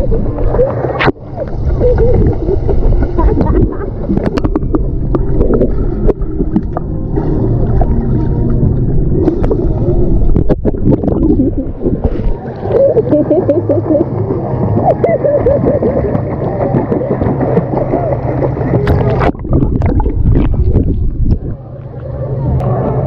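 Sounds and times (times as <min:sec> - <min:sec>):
pool water sloshing and splashing: 0:00.0 - 0:23.0.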